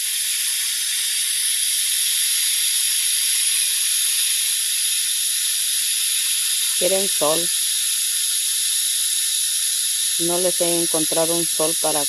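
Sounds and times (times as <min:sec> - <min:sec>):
hose nozzle spraying water: 0:00.0 - 0:12.0.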